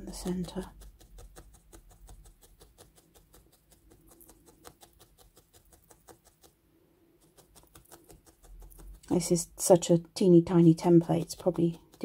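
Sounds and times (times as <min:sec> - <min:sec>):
felting needle stabbing wool: 0:00.0 - 0:06.6, 0:07.2 - 0:09.8, 0:10.5 - 0:12.0.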